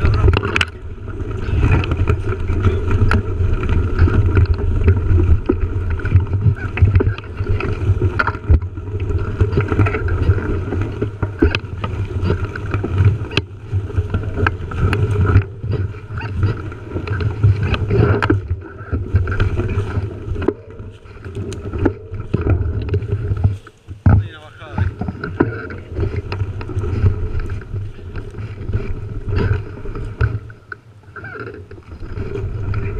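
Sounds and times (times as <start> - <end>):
bike rattling and knocking: 0.0 - 32.9
tyres rolling over dirt: 0.0 - 32.9
wind buffeting microphone: 0.0 - 32.9.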